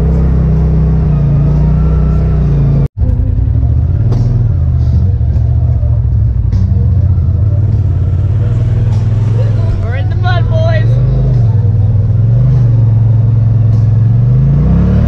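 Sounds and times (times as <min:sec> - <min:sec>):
engine drone inside cab: 0:00.0 - 0:15.0.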